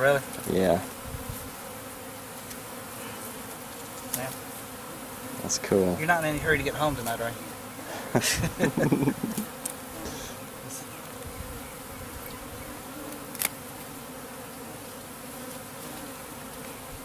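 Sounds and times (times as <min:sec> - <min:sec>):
honeybee swarm humming: 0:00.0 - 0:17.0.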